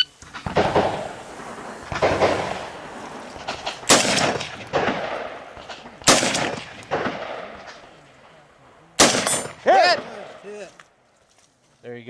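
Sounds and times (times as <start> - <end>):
rifle shots with rolling echo: 0.2 - 10.7.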